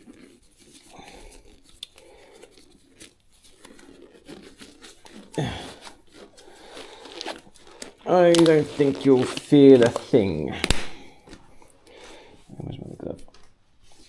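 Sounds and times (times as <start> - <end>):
rubber gloves rustling and snapping: 0.0 - 14.0.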